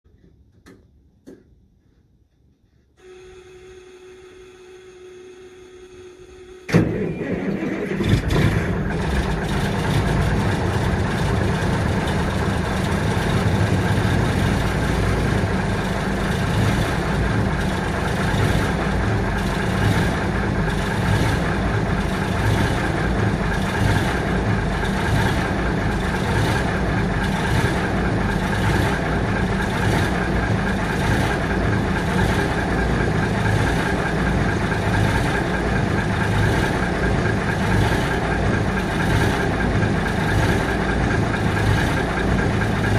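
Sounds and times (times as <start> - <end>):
diesel truck engine idling: 6.9 - 42.9.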